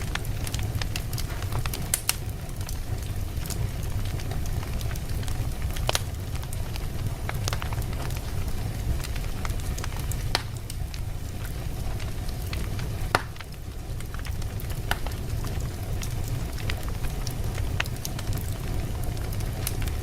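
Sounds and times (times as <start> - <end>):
flames rumbling in fireplace: 0.0 - 20.0
logs crackling and popping: 0.0 - 20.0.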